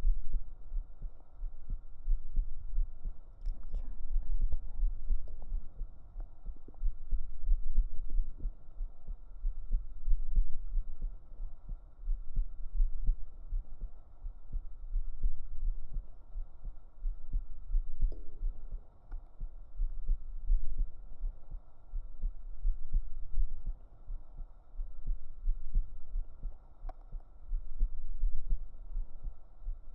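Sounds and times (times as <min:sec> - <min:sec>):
heartbeat thumps: 0:00.0 - 0:29.9.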